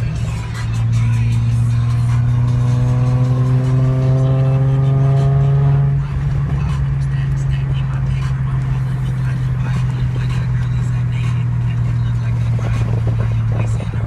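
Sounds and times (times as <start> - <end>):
car running with low hum: 0.0 - 14.0.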